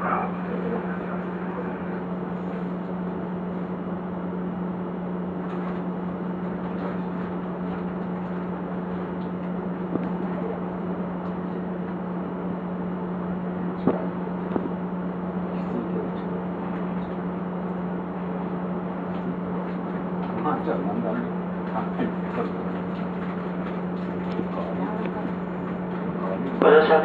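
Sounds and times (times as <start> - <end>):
train equipment hum: 0.0 - 27.0.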